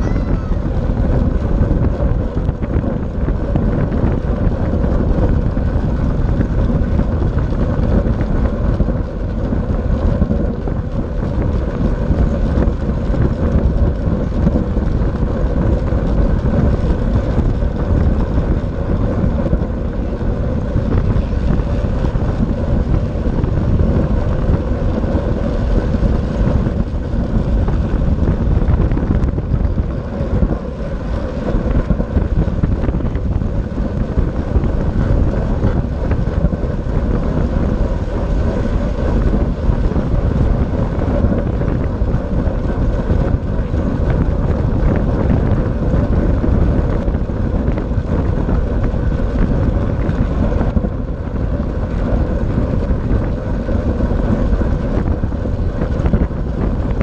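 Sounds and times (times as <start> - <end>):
bicycle wheels humming on boards: 0.0 - 57.0
wind rushing over microphone: 0.0 - 57.0.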